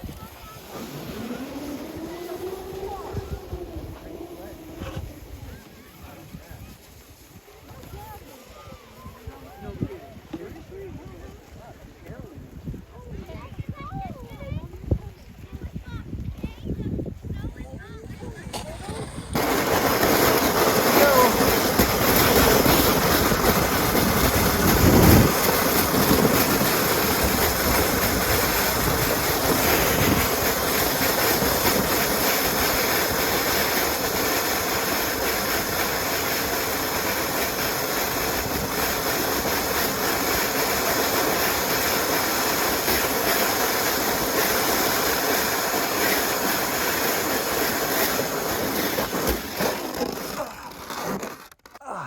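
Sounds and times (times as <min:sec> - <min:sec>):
sled scraping over icy snow: 0:00.0 - 0:11.7, 0:13.3 - 0:51.8.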